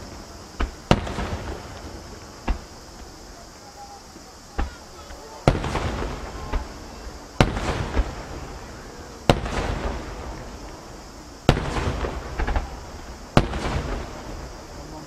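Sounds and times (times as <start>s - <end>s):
firework booms: 0.0s - 15.0s
smaller firework bangs: 0.0s - 15.0s.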